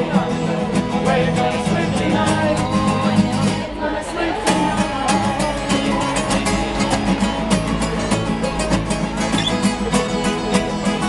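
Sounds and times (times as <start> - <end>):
acoustic guitars strumming: 0.0 - 11.0.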